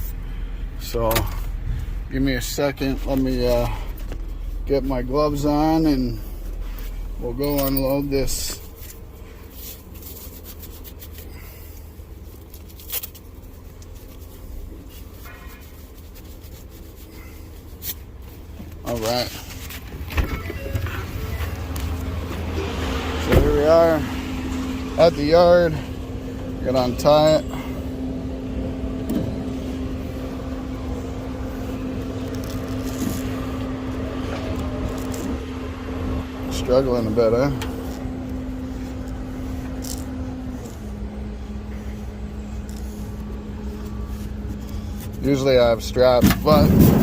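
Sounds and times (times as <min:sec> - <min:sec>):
engine idling: 0:00.0 - 0:47.0
gloves rubbing and rustling: 0:00.0 - 0:47.0
steady low rumble: 0:00.0 - 0:47.0.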